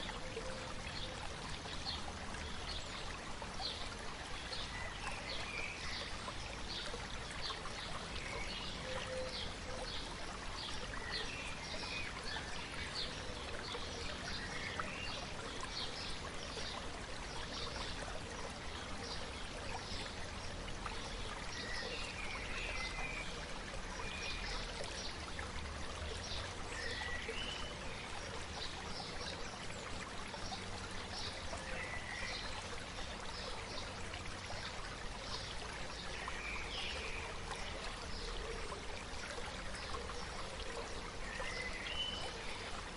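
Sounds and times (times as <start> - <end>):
river babbling: 0.0 - 42.9.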